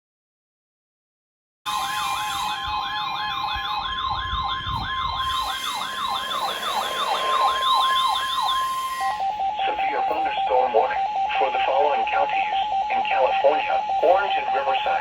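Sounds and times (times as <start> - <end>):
rapid warbling siren: 1.7 - 15.0
steady high alert tone: 1.7 - 15.0.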